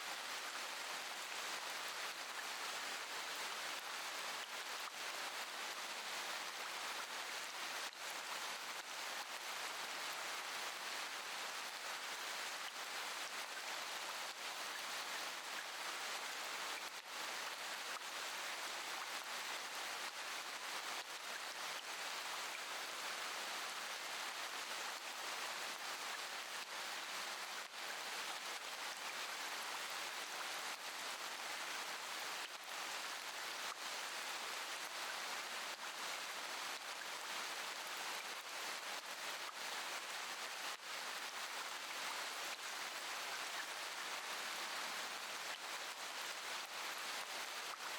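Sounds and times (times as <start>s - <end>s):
steady rainfall: 0.0s - 47.9s.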